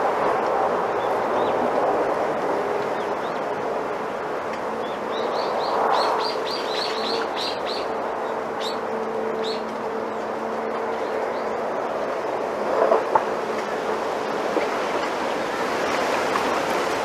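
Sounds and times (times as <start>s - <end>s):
wind rustling bamboo leaves: 0.0s - 17.0s.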